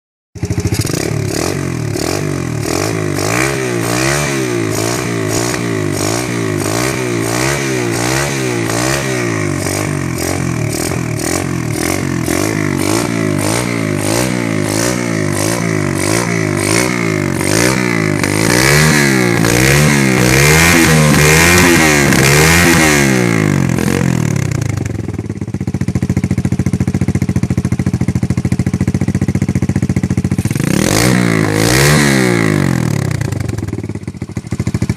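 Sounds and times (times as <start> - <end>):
motorbike engine idling: 0.4 - 3.2, 4.5 - 34.9
motorbike engine revving: 0.4 - 34.9.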